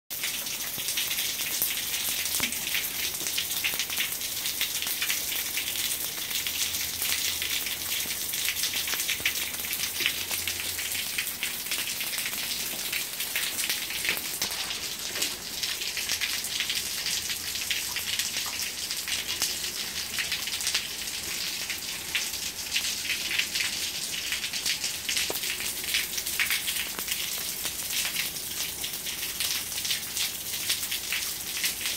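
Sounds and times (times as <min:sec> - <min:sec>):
rain on paving: 0:00.1 - 0:31.9.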